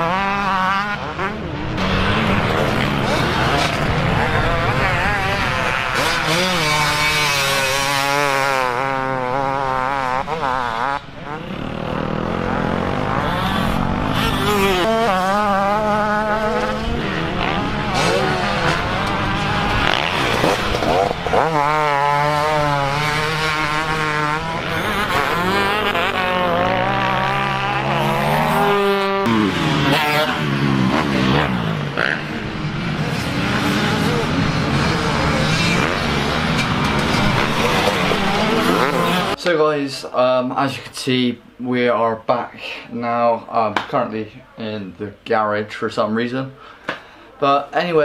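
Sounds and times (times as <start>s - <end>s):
motocross engines revving: 0.0s - 40.0s.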